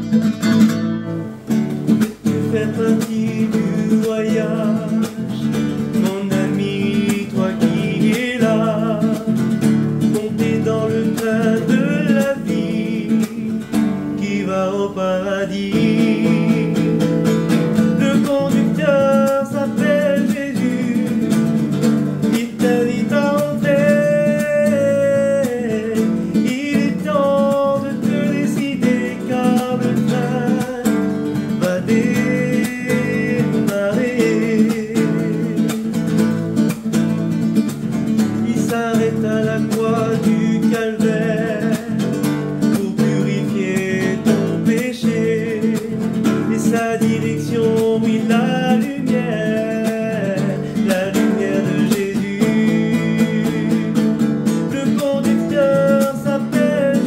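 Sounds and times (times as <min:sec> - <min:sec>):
guitar strummed: 0:00.0 - 0:57.0
man singing: 0:01.9 - 0:57.0.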